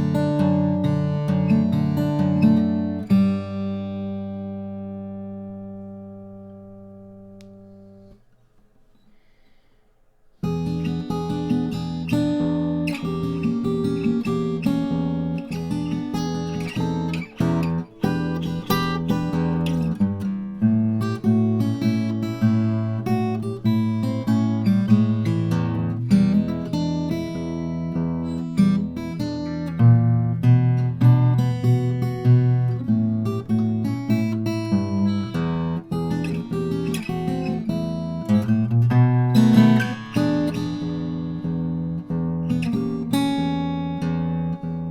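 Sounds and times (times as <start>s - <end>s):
acoustic guitar playing: 0.0s - 9.3s, 10.3s - 44.9s.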